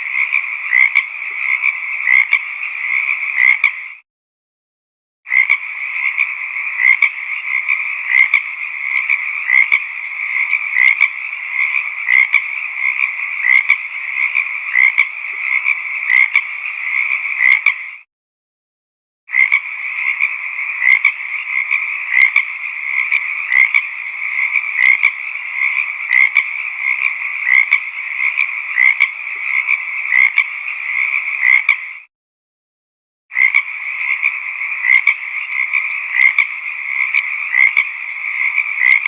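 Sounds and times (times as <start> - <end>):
chorus of frogs croaking: 0.0 - 4.0, 5.3 - 18.1, 19.3 - 32.1, 33.3 - 39.0
loud single frog calls: 0.0 - 4.0, 5.3 - 18.1, 19.3 - 32.1, 33.3 - 39.0.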